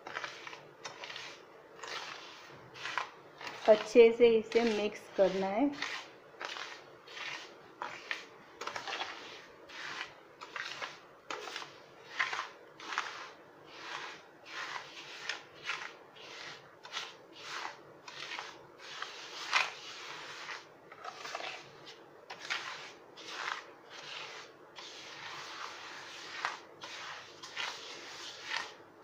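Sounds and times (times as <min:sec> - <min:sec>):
spoon scraping sugar on steel plate: 0:00.0 - 0:28.9.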